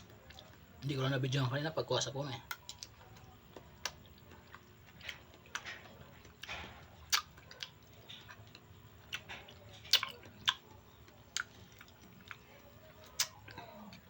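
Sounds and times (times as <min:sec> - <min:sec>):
person chewing and lip smacking: 0:00.0 - 0:00.7, 0:02.4 - 0:14.0.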